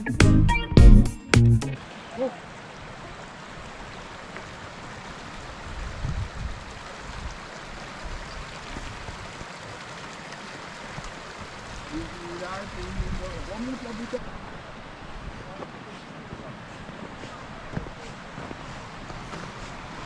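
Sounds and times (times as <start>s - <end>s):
stream rushing over rocks: 1.8s - 20.0s.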